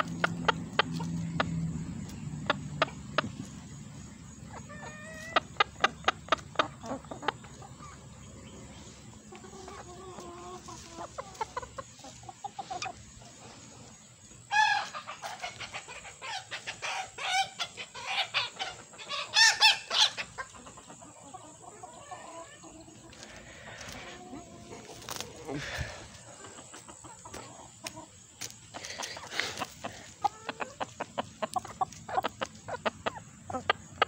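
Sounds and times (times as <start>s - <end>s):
chickens clucking and squawking: 0.0s - 34.0s.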